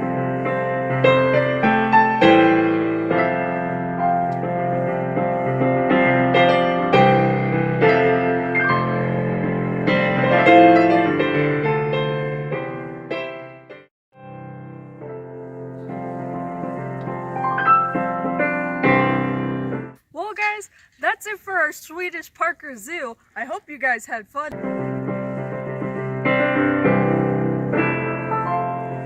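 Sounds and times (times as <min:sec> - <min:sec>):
slow piano music: 0:00.0 - 0:20.0, 0:24.6 - 0:29.0.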